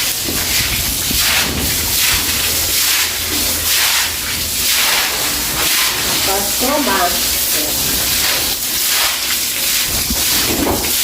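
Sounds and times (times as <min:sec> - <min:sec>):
broom scrubbing wet floor: 0:00.0 - 0:11.0.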